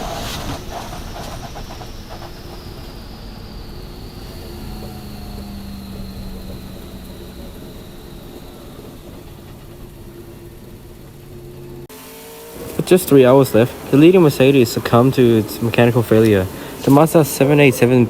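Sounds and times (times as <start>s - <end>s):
car engine running: 0.0s - 18.0s
high whine: 0.0s - 18.0s.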